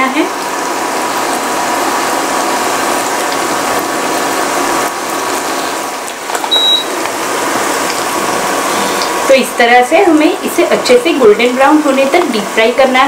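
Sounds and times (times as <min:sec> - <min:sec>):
fritters sizzling in hot oil: 0:00.0 - 0:13.0.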